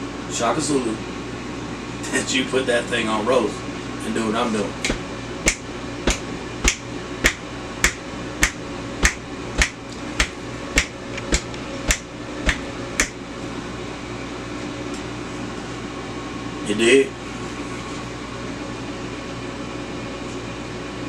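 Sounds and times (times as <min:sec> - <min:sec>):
air fryer humming: 0:00.0 - 0:21.0.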